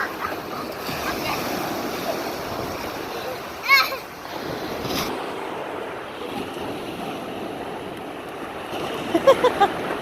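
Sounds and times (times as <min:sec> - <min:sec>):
waves washing on a beach: 0:00.0 - 0:10.0.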